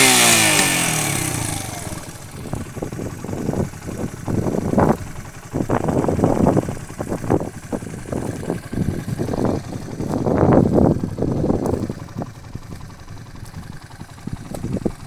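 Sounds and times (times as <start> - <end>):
motorcycle engine idling unevenly: 0.0 - 15.0.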